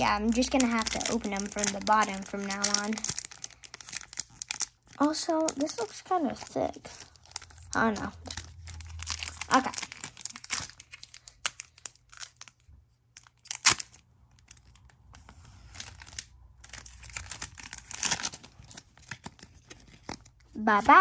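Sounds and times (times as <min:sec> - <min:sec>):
foil wrapper tearing and crinkling: 0:00.0 - 0:20.4.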